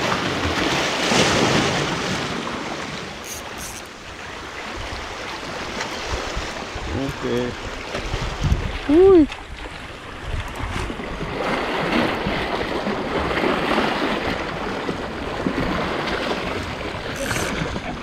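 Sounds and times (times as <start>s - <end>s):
waves splashing on rocks: 0.0s - 9.7s, 10.3s - 18.0s.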